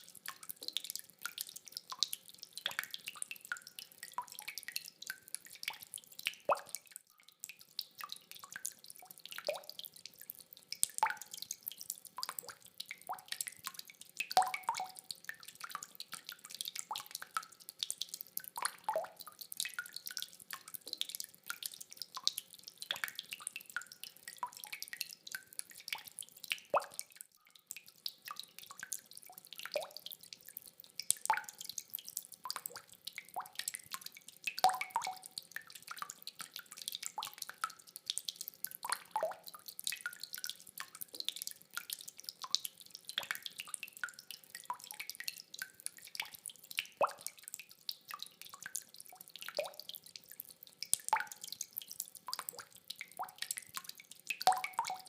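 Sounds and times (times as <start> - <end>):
rainwater dripping: 0.0 - 55.0.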